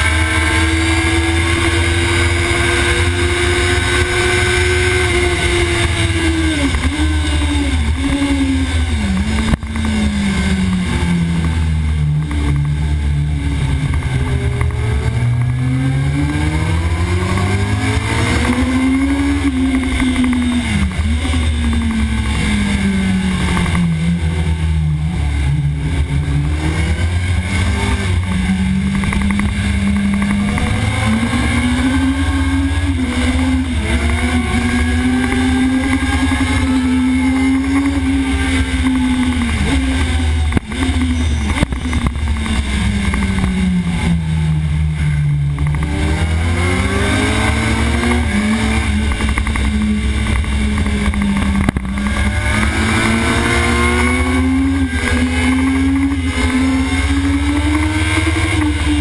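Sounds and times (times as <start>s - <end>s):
motorcycle engine revving: 0.0s - 59.0s
wind and vibration rumble: 0.0s - 59.0s.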